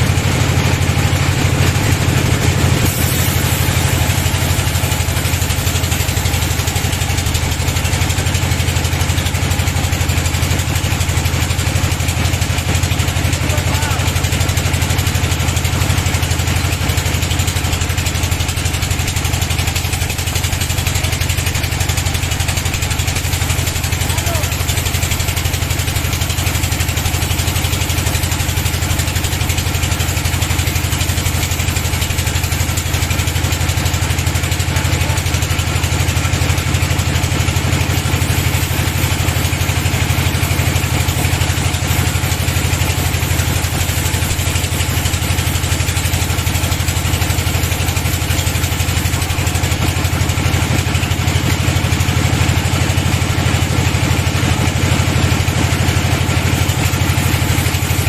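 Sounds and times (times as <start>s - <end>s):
bandsaw machine drone: 0.0s - 58.0s.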